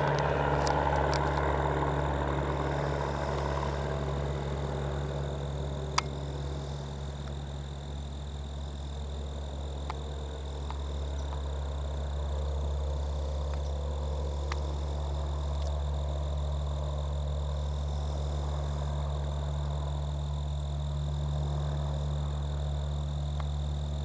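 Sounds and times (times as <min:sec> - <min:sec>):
airplane engine drone: 0:00.0 - 0:24.0.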